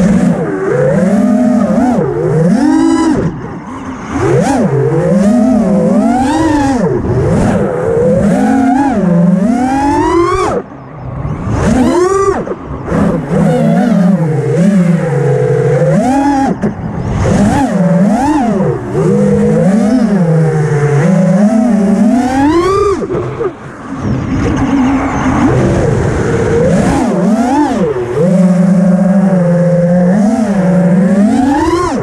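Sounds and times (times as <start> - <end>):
quadcopter motors whining: 0.0 - 24.6, 25.2 - 32.0.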